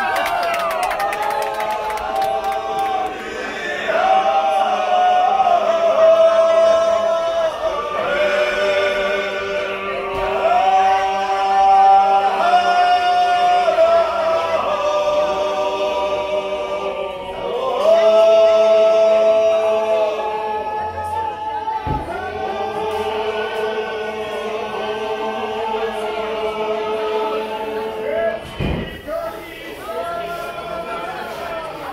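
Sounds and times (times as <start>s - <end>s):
men singing polyphonic a cappella: 2.0s - 31.0s.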